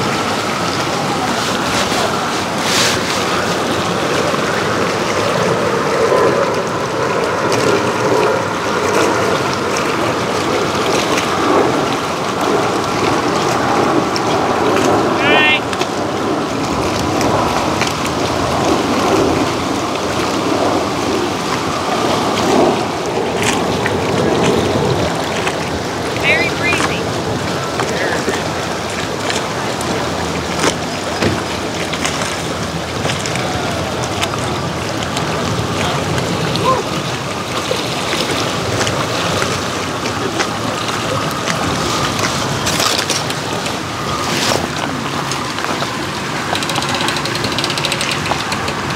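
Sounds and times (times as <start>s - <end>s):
choppy lake water: 0.0s - 48.9s
strong wind: 0.0s - 48.9s.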